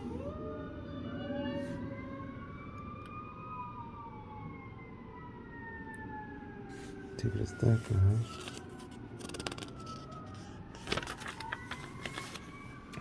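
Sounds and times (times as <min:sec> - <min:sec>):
distant emergency vehicle siren: 0:00.0 - 0:13.0.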